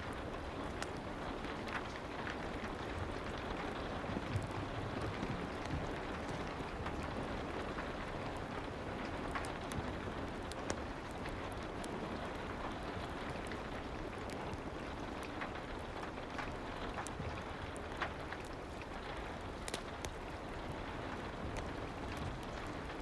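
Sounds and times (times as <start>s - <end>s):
soft rain falling: 0.0s - 23.0s.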